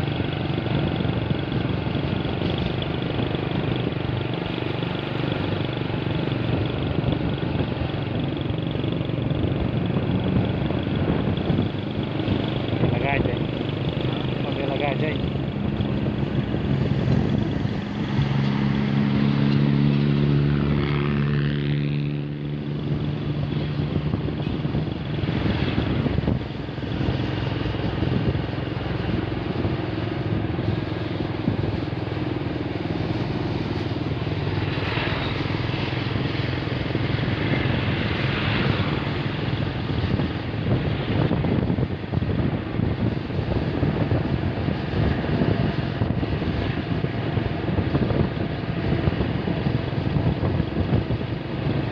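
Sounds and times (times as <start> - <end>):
traffic engine and tyre noise: 0.0 - 51.9
truck engine humming: 0.0 - 51.9.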